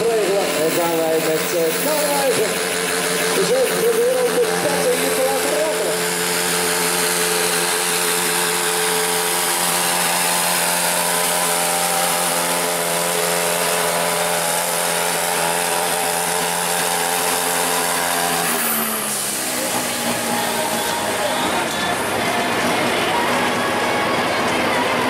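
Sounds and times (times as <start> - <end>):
diesel tractor engine revving: 0.0 - 25.0.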